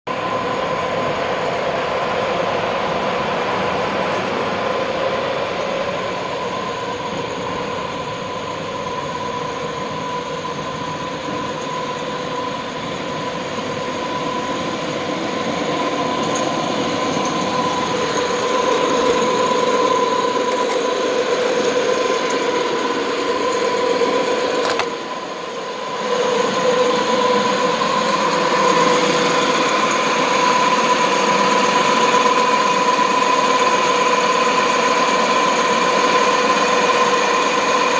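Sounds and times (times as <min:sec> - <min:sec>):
concrete grinder whine: 0:00.1 - 0:37.9.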